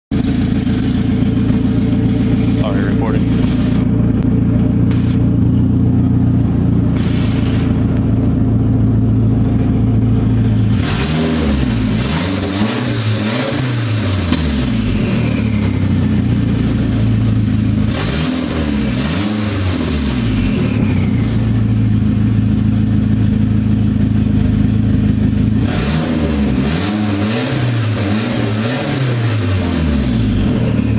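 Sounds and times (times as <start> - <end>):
car engine revving: 0.1 - 30.9.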